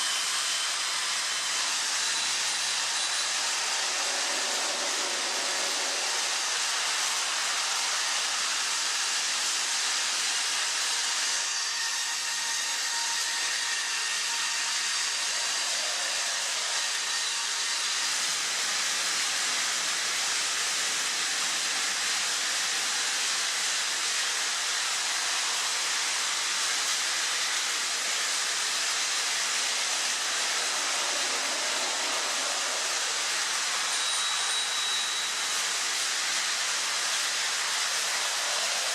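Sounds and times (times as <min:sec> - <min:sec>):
toy trains whirring on track: 0:00.0 - 0:38.9.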